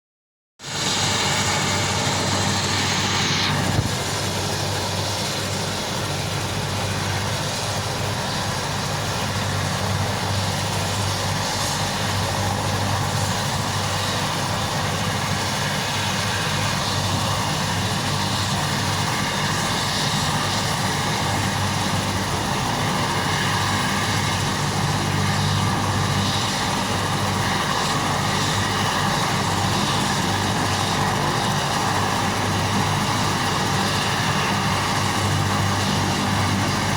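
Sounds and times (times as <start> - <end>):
helicopter engine and rotor drone: 0.6 - 36.9.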